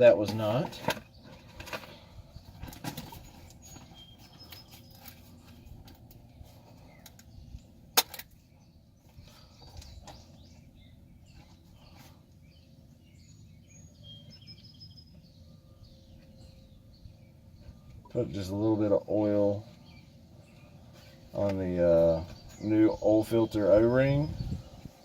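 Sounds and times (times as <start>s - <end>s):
birds chirping faintly: 0.0s - 25.0s
outdoor background noise: 0.0s - 25.0s.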